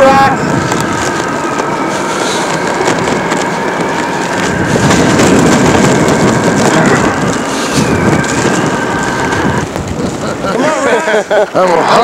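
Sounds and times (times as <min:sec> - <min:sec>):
thin steady whine: 0:00.0 - 0:12.0
wind buffeting microphone: 0:00.0 - 0:12.0.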